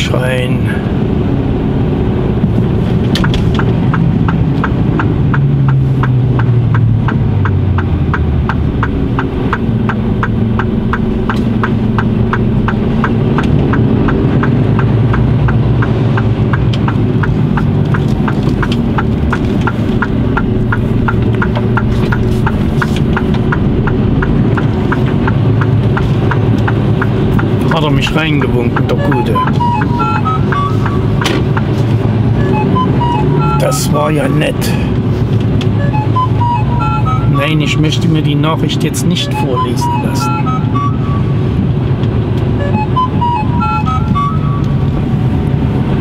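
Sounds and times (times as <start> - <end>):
diesel engine running: 0.0 - 46.0
turn signal ticking: 0.0 - 46.0.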